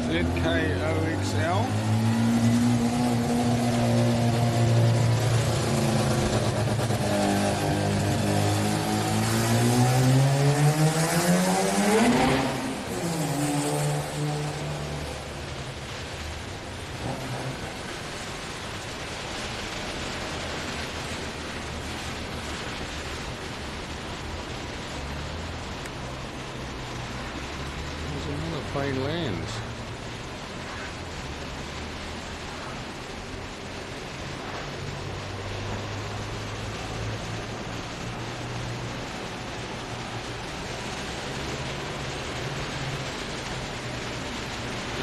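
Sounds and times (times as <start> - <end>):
jet engines droning: 0.0 - 45.0.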